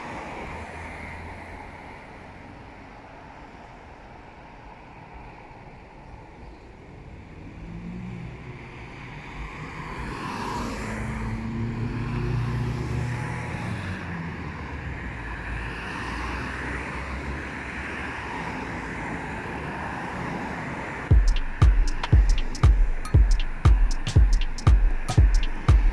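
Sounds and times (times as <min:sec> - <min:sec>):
outdoor noise: 0:00.0 - 0:25.9.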